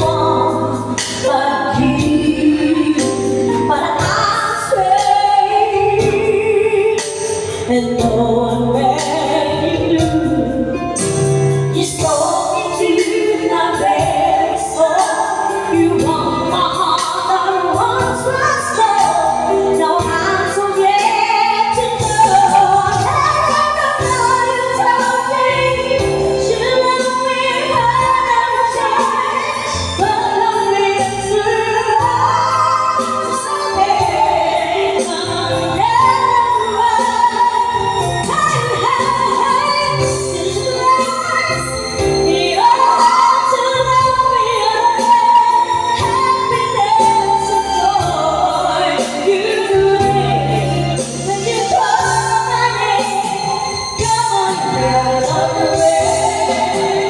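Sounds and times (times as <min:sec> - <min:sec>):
girl and woman singing duet: 0:00.0 - 0:10.6, 0:11.8 - 0:57.0
musical backing track: 0:00.0 - 0:57.0.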